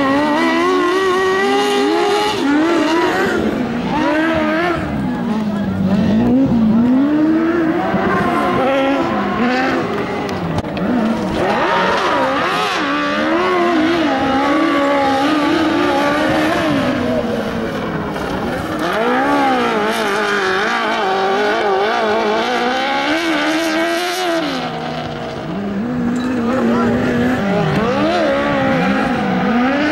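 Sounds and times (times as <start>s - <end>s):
racing buggy engine revving: 0.0s - 29.9s.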